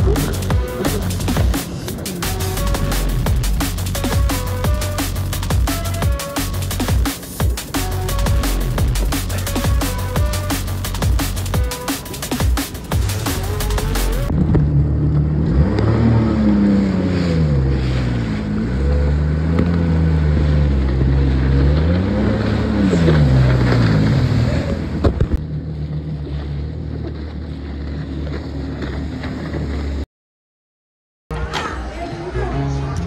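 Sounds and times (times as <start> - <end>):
jet ski engine revving: 0.0 - 30.0
wind: 0.0 - 30.0.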